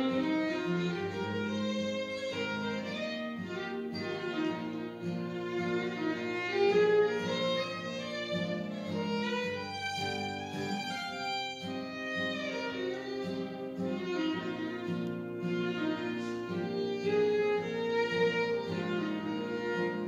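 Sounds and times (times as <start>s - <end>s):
acoustic guitar accompaniment: 0.0s - 20.0s
fiddle playing waltz melody: 0.0s - 20.0s.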